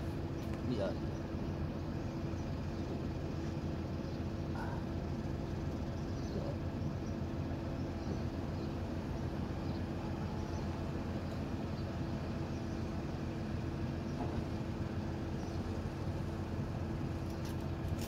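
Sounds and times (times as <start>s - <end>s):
constant hum: 0.0s - 18.0s
low outdoor rumble: 0.0s - 18.0s.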